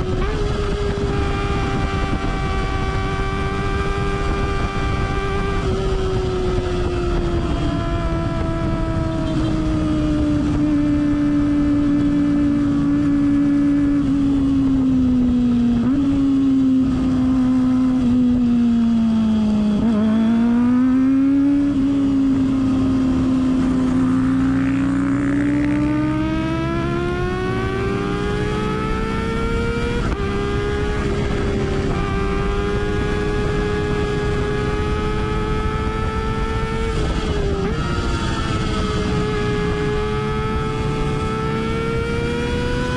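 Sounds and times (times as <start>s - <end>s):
high-revving motorcycle engine: 0.0s - 42.9s.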